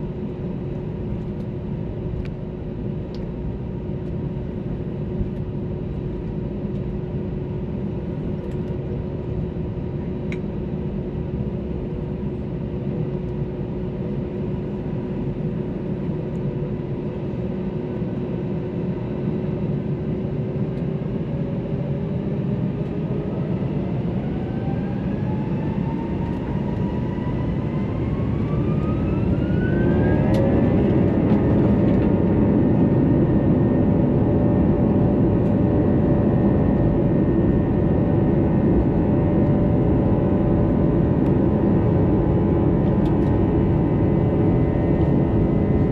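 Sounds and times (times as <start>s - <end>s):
jet engine whine: 0.0s - 45.9s.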